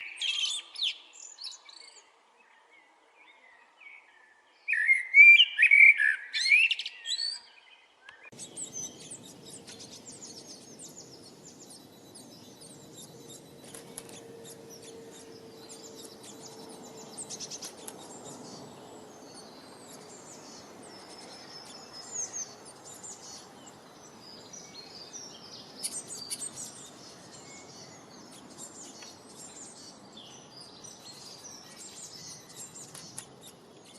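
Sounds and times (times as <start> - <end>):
birds calling and chirping: 0.0 - 2.0, 2.6 - 33.9.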